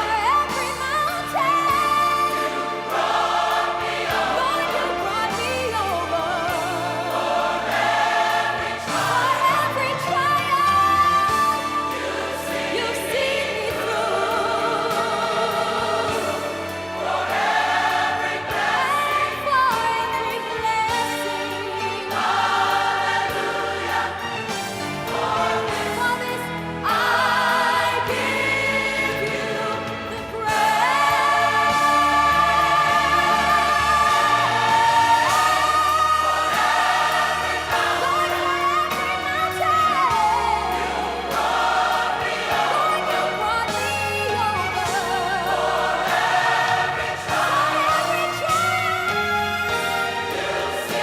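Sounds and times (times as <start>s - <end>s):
gospel choir singing: 0.0s - 51.0s.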